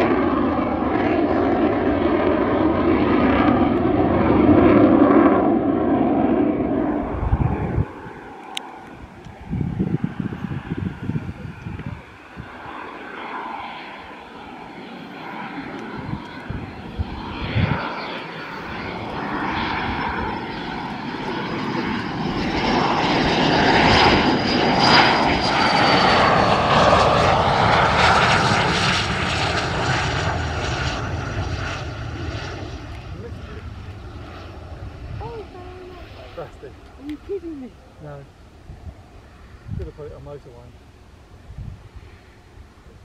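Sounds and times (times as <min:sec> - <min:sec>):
jet engine rush and whine: 0:00.0 - 0:43.0.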